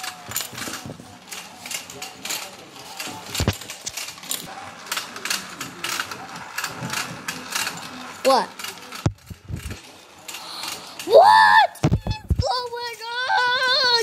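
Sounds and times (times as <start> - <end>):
toy motor clicking and rattling: 0.0 - 11.2, 11.8 - 14.0.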